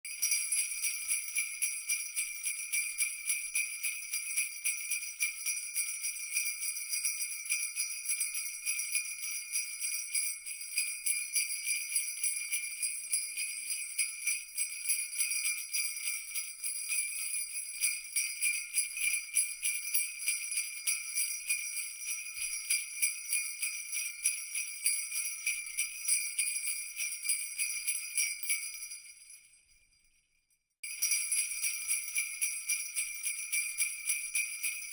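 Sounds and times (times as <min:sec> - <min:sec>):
sleigh bells jingling: 0:00.0 - 0:34.9.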